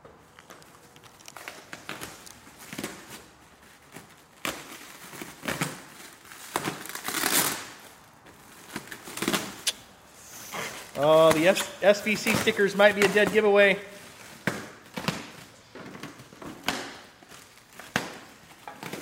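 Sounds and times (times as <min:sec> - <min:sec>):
plastic wrap crinkling: 0:00.2 - 0:19.0
plastic wrap snapping: 0:00.4 - 0:09.9, 0:10.9 - 0:19.0.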